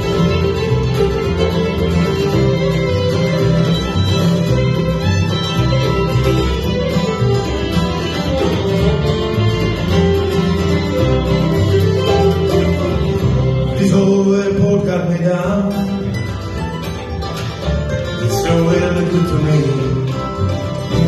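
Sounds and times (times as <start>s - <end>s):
acoustic guitar: 0.0s - 21.0s
fiddle: 0.0s - 21.0s
mandolin: 0.0s - 21.0s
upright bass: 0.0s - 21.0s.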